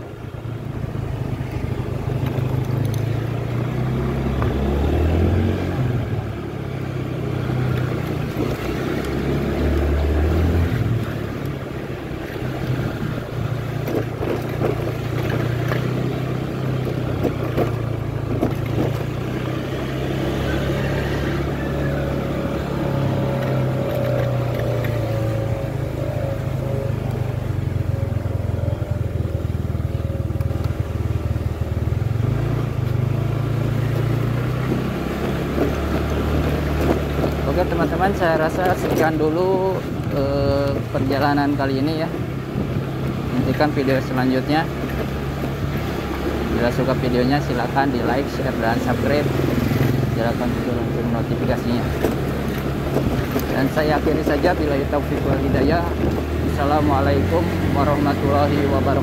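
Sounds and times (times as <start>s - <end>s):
knocks and rattles on rough road: 0.0s - 59.0s
motor scooter engine running: 0.0s - 59.0s.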